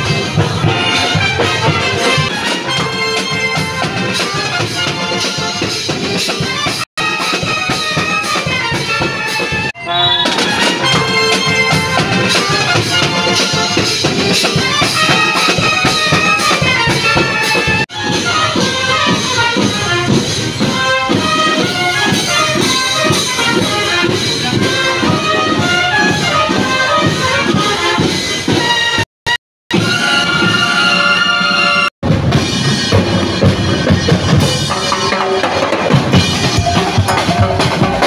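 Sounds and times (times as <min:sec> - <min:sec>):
upbeat instrumental music: 0:00.0 - 0:38.0.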